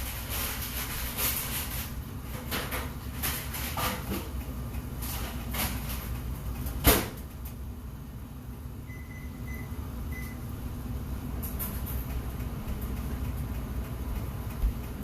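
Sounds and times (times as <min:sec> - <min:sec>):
microwave low hum: 0:00.0 - 0:15.0.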